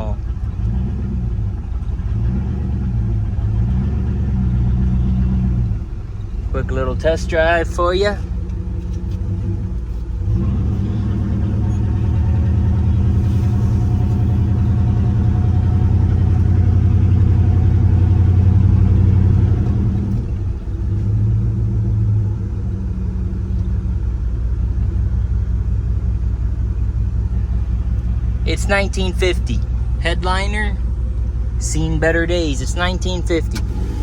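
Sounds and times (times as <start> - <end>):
truck exhaust drone: 0.0 - 34.0.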